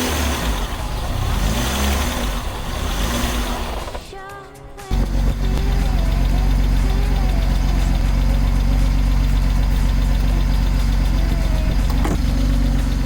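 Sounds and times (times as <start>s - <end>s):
car engine idling: 0.0s - 4.2s, 4.9s - 13.0s.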